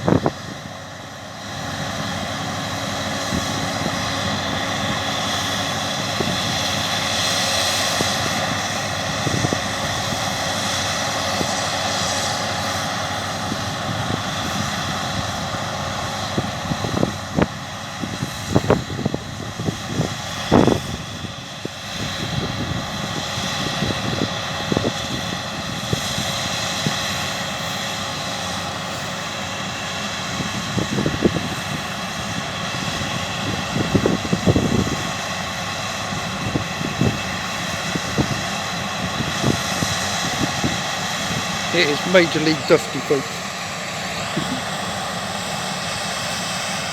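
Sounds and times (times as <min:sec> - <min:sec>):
combine harvester engine drone: 0:00.0 - 0:46.9.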